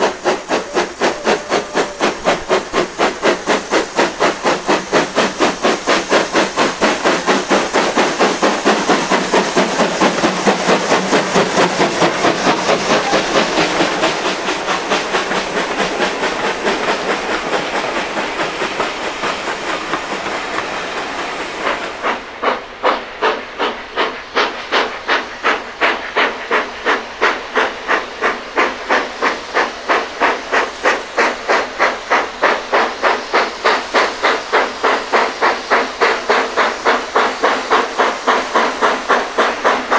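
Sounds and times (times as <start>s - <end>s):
steam hissing: 0.0s - 39.9s
steam locomotive chuffing: 0.0s - 39.9s.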